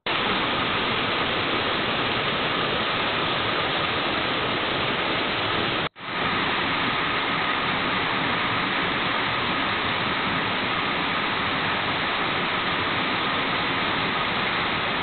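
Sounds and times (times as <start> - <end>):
waterfall rushing over rock: 0.1 - 15.0.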